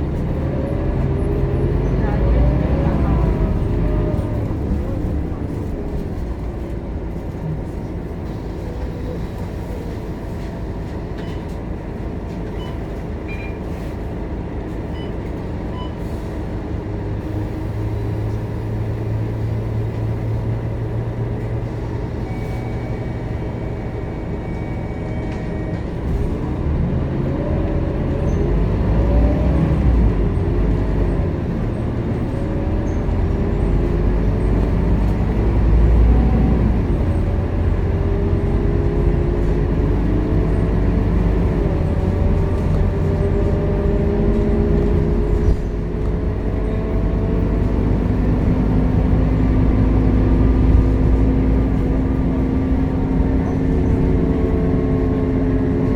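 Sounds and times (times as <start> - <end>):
bus diesel engine running: 0.0 - 55.9.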